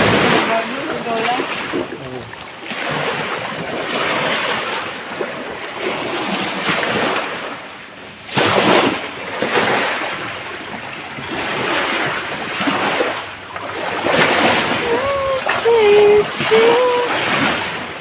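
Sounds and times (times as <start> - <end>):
sea waves washing in: 0.0 - 18.0.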